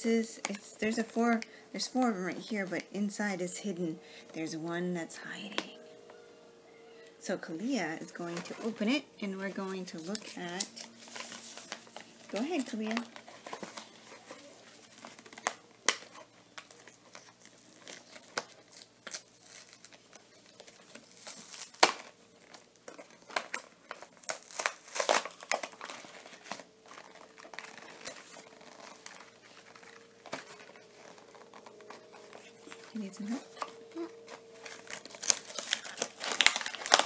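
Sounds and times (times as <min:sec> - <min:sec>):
plastic packaging crinkling: 0:05.3 - 0:37.0.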